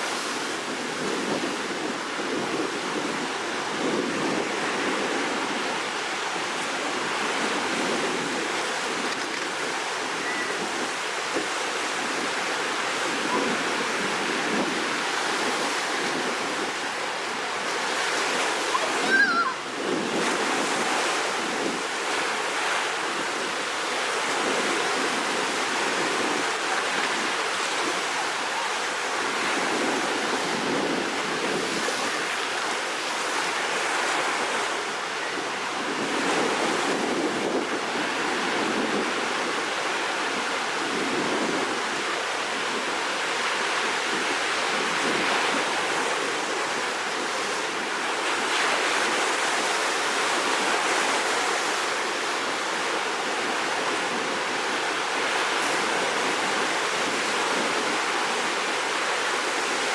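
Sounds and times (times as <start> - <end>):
waves breaking heavy surf: 0.0 - 59.9.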